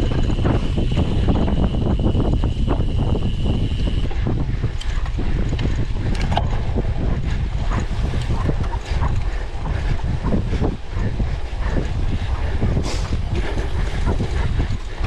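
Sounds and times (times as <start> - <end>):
bike frame rattling and clicking: 0.0 - 15.0
low tyre rumble: 0.0 - 15.0
wind noise on microphone: 0.0 - 15.0.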